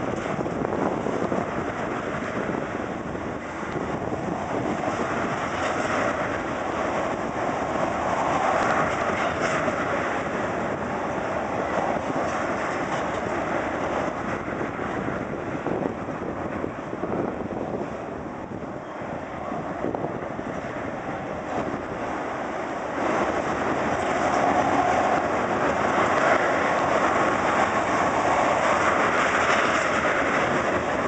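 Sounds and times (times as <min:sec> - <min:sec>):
train wheels rolling on rail: 0:00.0 - 0:31.0.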